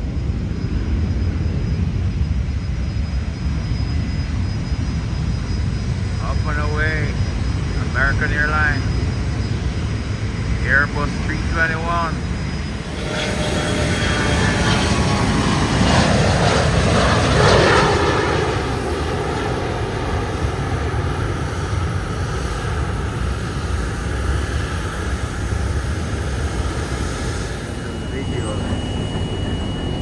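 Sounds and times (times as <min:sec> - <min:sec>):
airplane engine passing by: 0:00.0 - 0:30.0.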